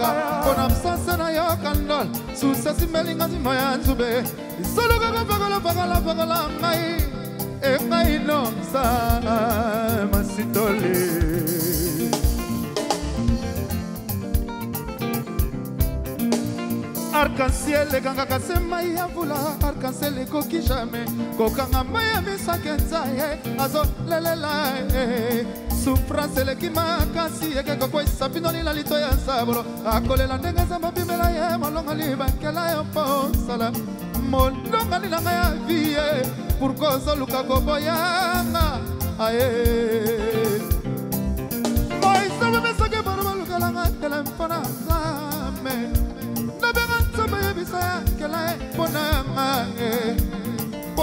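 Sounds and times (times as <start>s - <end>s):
person singing: 0.0s - 12.8s, 17.0s - 40.9s, 41.9s - 51.0s
steady drum beat: 0.0s - 51.0s.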